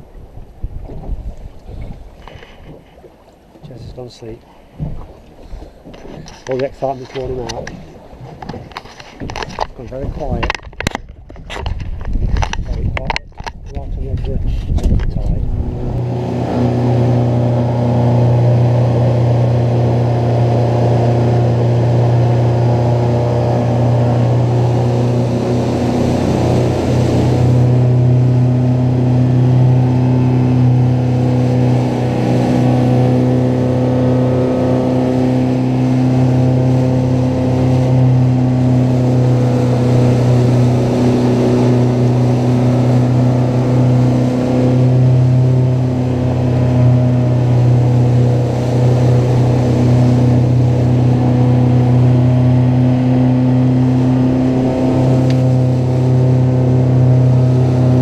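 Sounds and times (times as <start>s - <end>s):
outboard engine running: 0.0s - 58.0s
water rushing from boat wake: 0.0s - 58.0s.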